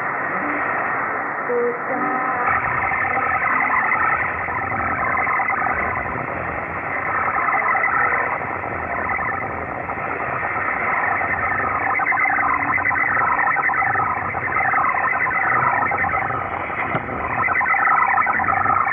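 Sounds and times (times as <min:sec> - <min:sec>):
muffled shortwave radio music: 0:00.0 - 0:18.9.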